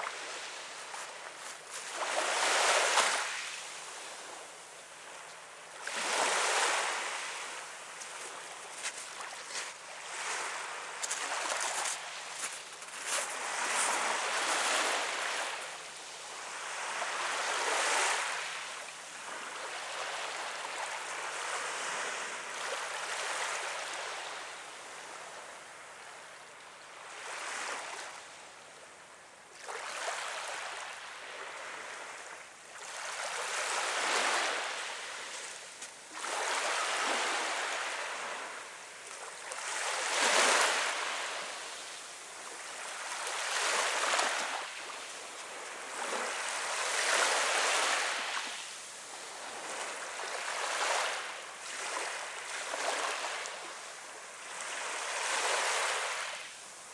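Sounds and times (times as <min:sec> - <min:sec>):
small waves lapping on sand: 0:00.0 - 0:56.9.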